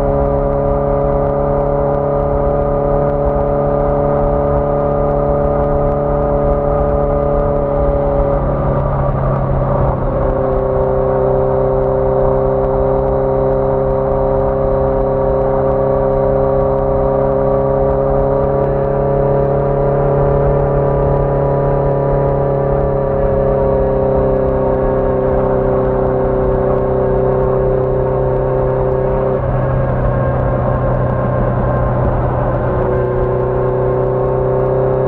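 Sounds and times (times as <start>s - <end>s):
motorcycle engine running: 0.0s - 35.0s
road rumble: 0.0s - 35.0s
wind noise: 0.0s - 35.0s.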